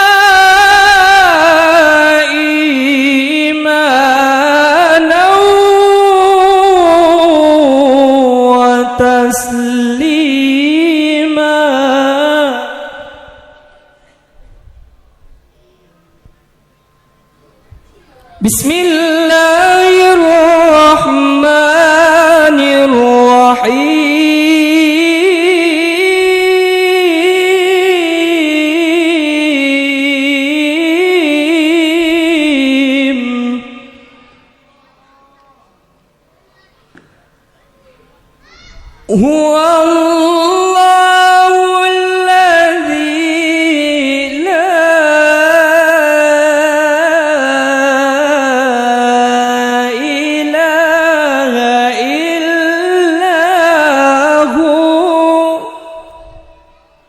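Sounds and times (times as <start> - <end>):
man reciting melismatic chant: 0.0 - 14.4, 17.4 - 36.0, 38.4 - 57.0.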